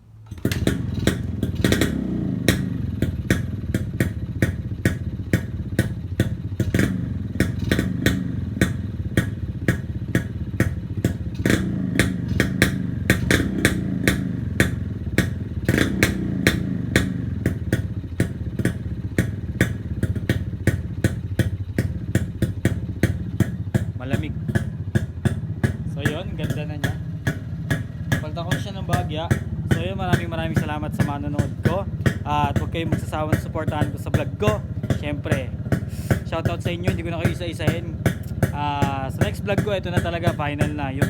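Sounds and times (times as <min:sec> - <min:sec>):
motorcycle engine starting: 0:00.0 - 0:41.0
motorcycle engine popping and revving: 0:00.2 - 0:41.0.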